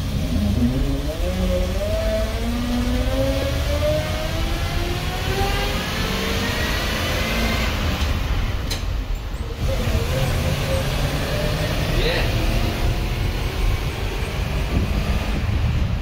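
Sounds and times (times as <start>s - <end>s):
bus engine accelerating: 0.0s - 16.0s.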